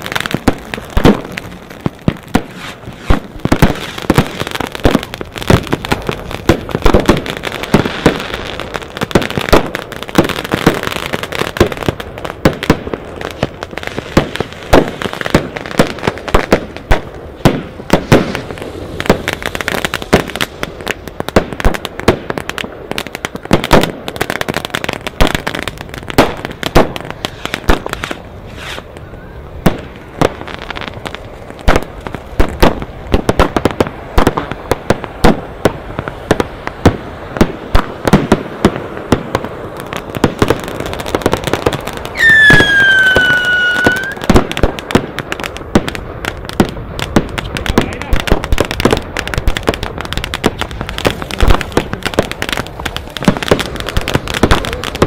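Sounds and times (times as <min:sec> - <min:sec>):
whistling firework: 0:00.0 - 0:39.6, 0:40.2 - 0:55.0
fireworks crackling and banging: 0:00.0 - 0:55.0.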